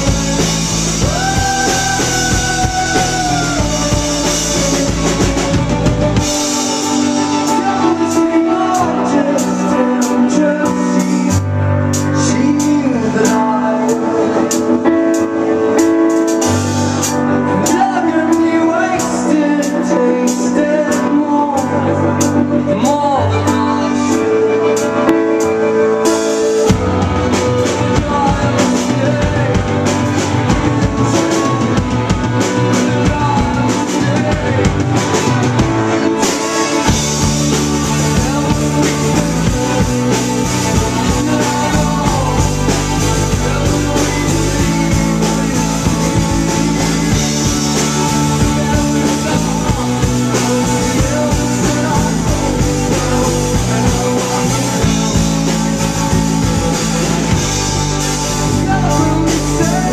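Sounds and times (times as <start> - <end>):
people singing: 0.0 - 16.2, 17.0 - 59.9
live rock band playing: 0.0 - 59.9.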